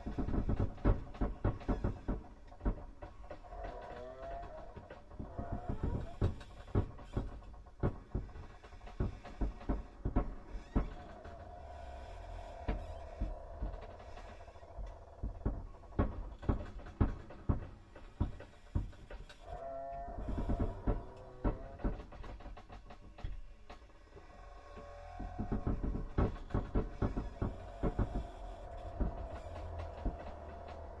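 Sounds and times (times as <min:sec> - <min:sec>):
irregular knocks and clicks: 0:00.0 - 0:31.0.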